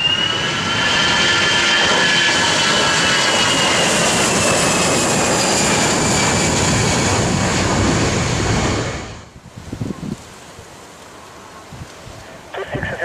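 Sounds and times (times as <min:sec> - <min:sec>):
jet airliner passing: 0:00.0 - 0:13.0.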